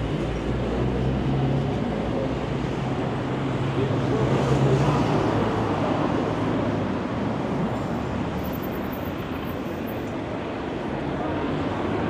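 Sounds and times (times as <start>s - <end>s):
car engines and tyre noise: 0.0s - 12.0s.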